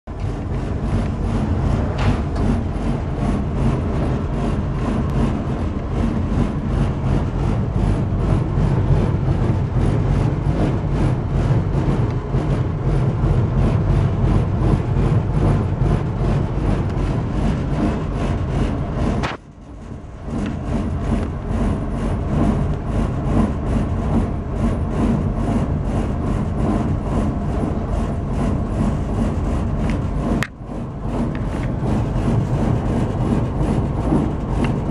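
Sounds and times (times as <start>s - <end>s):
furnace running with rasping noise: 0.1s - 34.9s.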